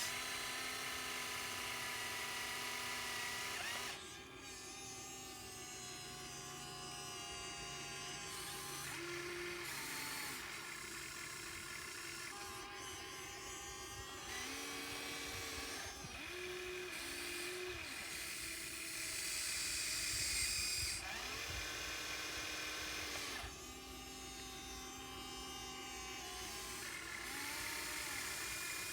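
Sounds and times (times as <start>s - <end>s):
small electric motors whining: 0.0s - 28.9s.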